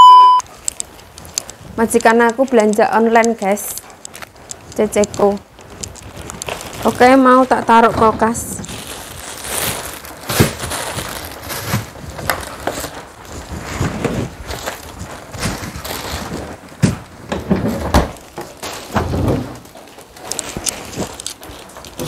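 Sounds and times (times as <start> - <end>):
packaging crinkling: 0.4 - 22.0.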